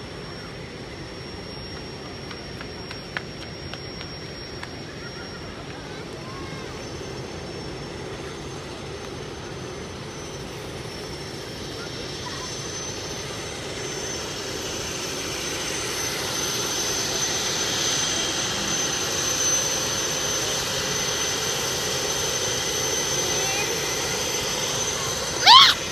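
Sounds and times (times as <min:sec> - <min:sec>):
aircraft engine drone: 0:00.0 - 0:25.9.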